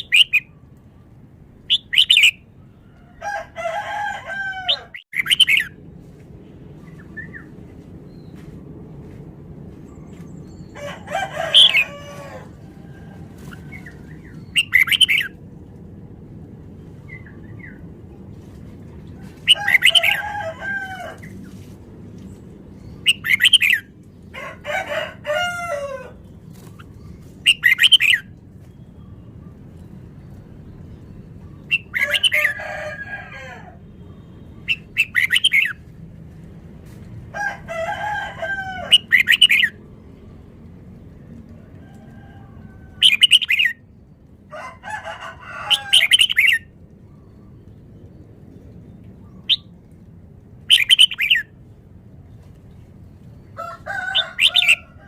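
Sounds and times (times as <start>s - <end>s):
low background noise: 0.0s - 55.0s.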